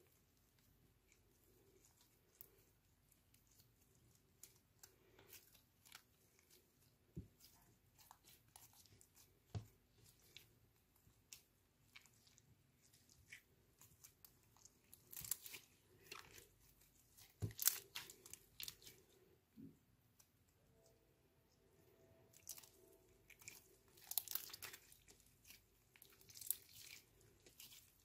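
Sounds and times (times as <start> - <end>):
slime clicking and crackling: 0.1 - 19.2, 22.3 - 28.0.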